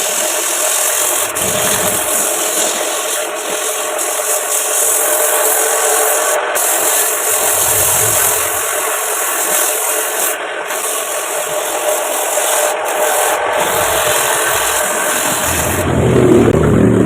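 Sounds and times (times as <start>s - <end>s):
tool scraping spinning wood: 0.0s - 16.0s
lathe motor hum: 0.0s - 16.9s.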